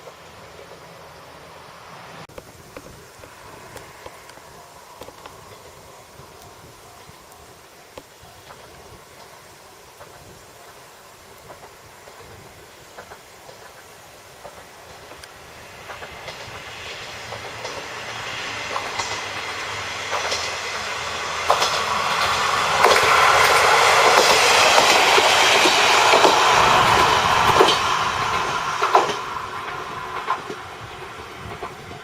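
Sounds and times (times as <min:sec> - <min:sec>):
train wheels clicking on rail joints: 0:00.0 - 0:32.0.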